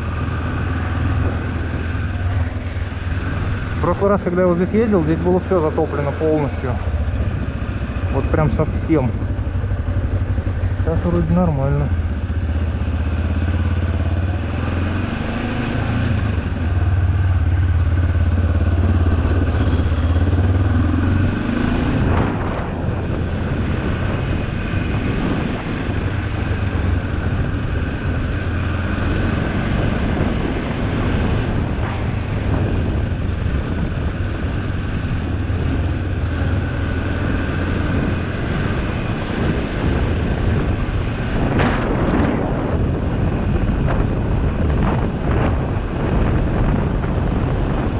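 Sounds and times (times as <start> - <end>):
motorcycle engine running: 0.0 - 47.9
wind and riding noise: 0.0 - 47.9.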